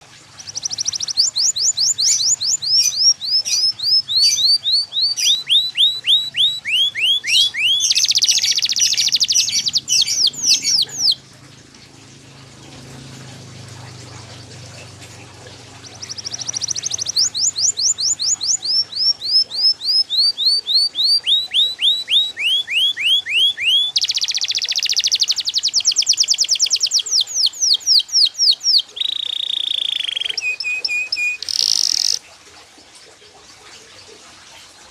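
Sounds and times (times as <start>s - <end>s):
canary singing: 0.4s - 11.2s, 13.4s - 32.2s.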